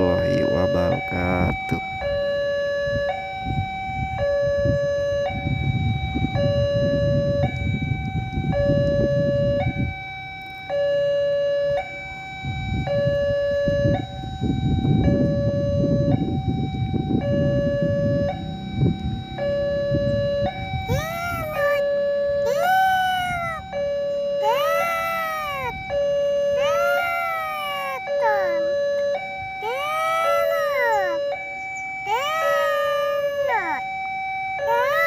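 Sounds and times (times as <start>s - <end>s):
level crossing two-tone alarm: 0.0s - 35.0s.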